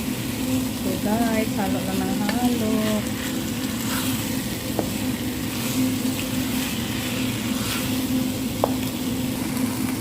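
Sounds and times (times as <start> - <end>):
chicken sizzling in a pot: 0.0 - 10.0
utensil scraping pot: 0.8 - 9.7.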